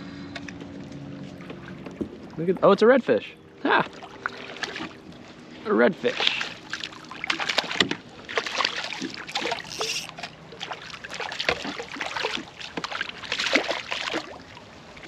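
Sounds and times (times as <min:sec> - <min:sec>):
water splashing around kayak hull: 0:00.4 - 0:15.0.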